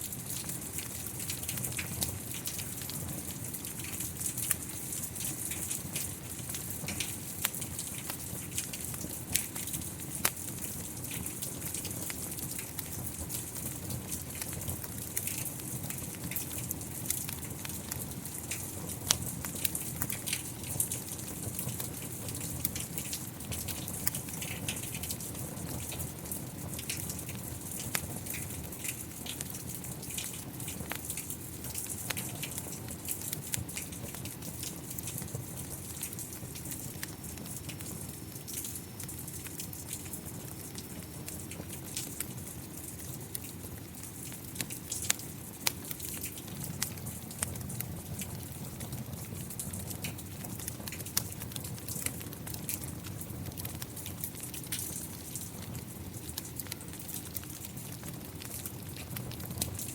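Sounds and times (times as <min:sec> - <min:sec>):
steady rain: 0:00.0 - 0:59.9
wood fire crackling and popping: 0:00.0 - 0:59.9.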